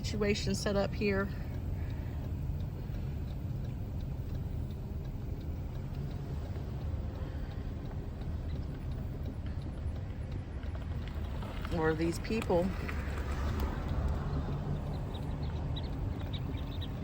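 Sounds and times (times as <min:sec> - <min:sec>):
car driving low rumble: 0:00.0 - 0:17.0.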